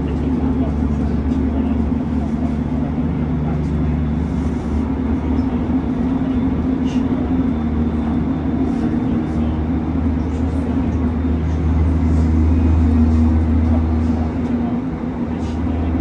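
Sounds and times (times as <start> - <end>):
constant low hum: 0.0 - 16.0
train wheels rumbling on rail: 0.0 - 16.0.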